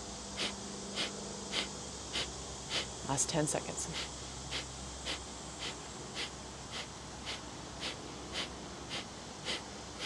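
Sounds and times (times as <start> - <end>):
sharp nasal exhales: 0.4 - 3.0, 3.9 - 10.0.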